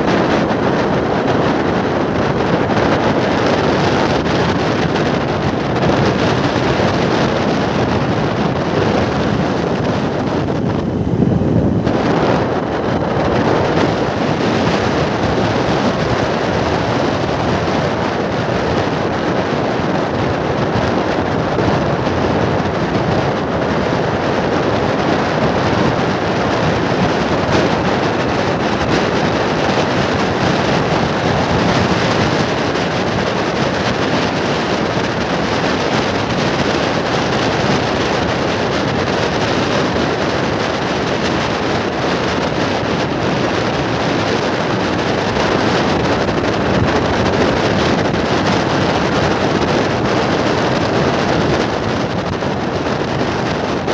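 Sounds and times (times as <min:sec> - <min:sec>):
vehicle road noise at speed: 0:00.0 - 0:53.9
wind rush over microphone: 0:00.0 - 0:53.9.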